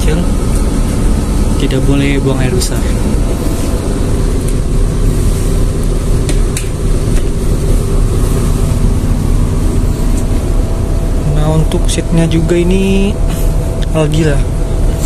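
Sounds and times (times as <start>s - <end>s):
air conditioning running: 0.0s - 15.0s
bus diesel engine idling: 0.0s - 15.0s.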